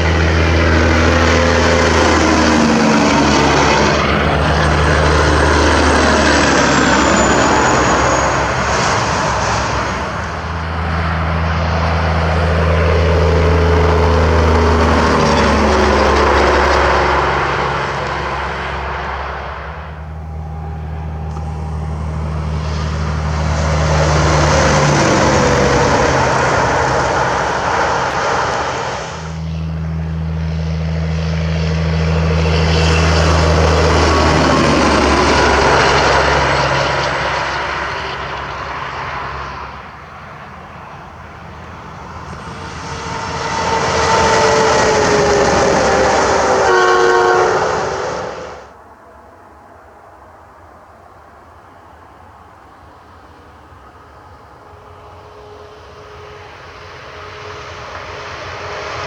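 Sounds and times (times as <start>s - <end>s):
multi-tone train horn: 0.0s - 39.2s, 42.1s - 48.8s, 53.8s - 59.0s
trucks passing: 0.0s - 59.0s.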